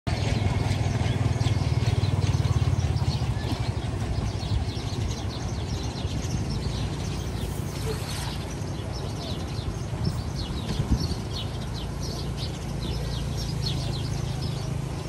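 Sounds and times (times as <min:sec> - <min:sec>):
birds chirping: 0:00.1 - 0:15.0
low motor rumble: 0:00.1 - 0:15.0.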